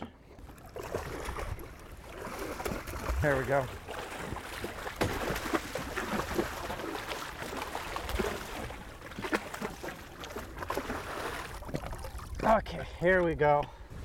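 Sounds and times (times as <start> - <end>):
fish splashing in water: 0.6 - 12.3.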